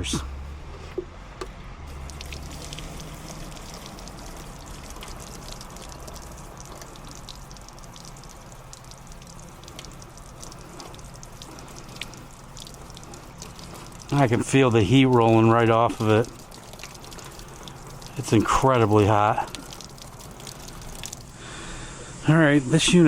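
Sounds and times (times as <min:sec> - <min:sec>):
water splashing onto hot metal unit: 0:01.9 - 0:21.5.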